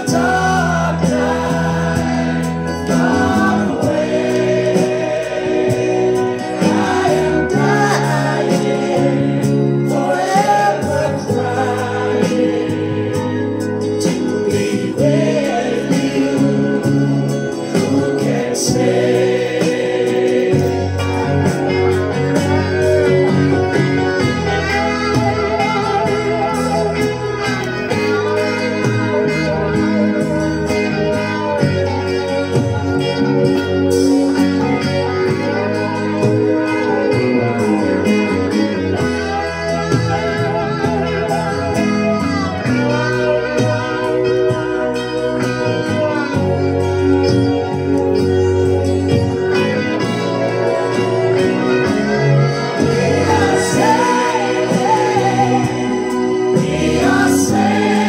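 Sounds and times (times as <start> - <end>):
chorus singing over a band: 0.0 - 58.0.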